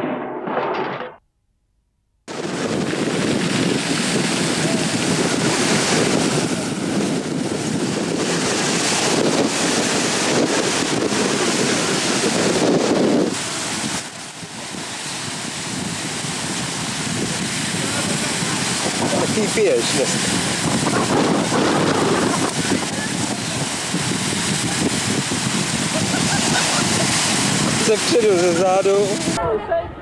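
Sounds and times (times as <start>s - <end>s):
breaking surf: 2.3s - 29.6s
wind buffeting microphone: 2.3s - 30.0s.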